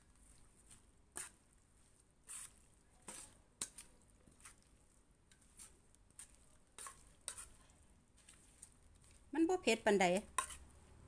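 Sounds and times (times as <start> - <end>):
soft squishes of food: 0.0 - 11.0.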